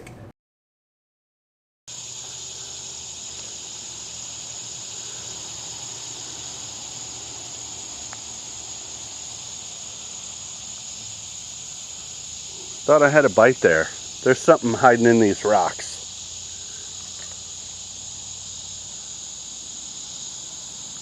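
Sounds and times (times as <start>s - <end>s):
faint outdoor hiss: 1.9s - 21.0s
insects droning: 1.9s - 21.0s.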